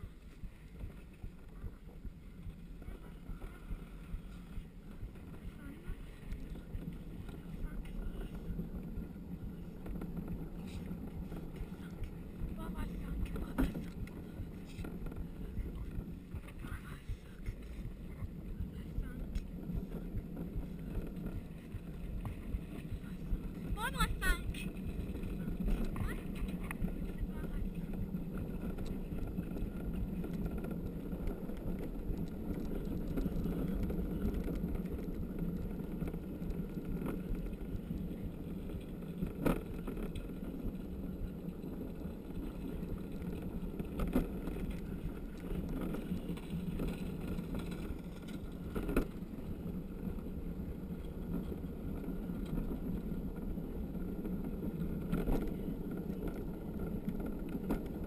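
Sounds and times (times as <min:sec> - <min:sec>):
cart wheels rumbling on concrete: 0:00.0 - 0:58.0.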